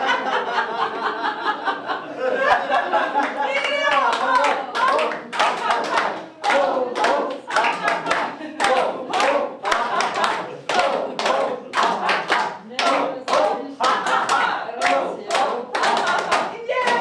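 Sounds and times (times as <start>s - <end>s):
group clapping in rhythm: 3.0s - 17.0s.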